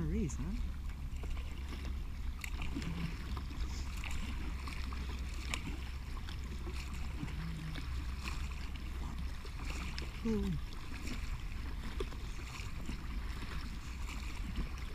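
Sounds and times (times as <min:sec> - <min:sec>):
small splashes and drips: 0:00.0 - 0:14.9
steady low rumble: 0:00.0 - 0:14.9
water lapping along kayak hull: 0:00.0 - 0:14.9.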